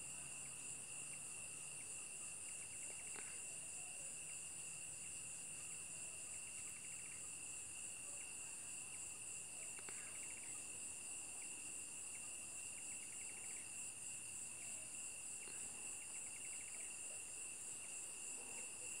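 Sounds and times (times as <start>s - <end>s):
insects trilling: 0.3s - 18.3s.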